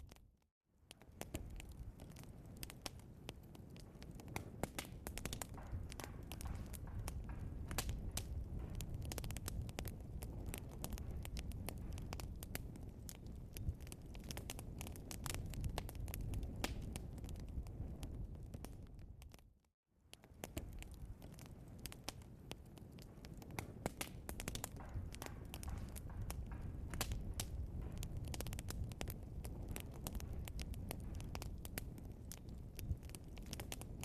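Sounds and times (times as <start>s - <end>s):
logs crackling and popping: 0.0s - 34.0s.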